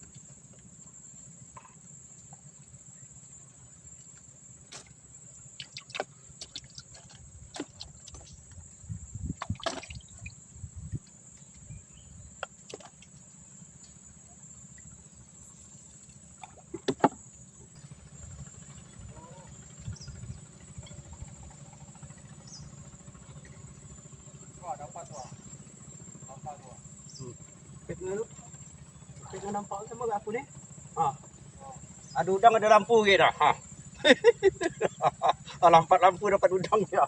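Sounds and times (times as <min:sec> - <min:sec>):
night insects chorus: 0:00.0 - 0:37.0
small watery sounds: 0:00.0 - 0:37.0.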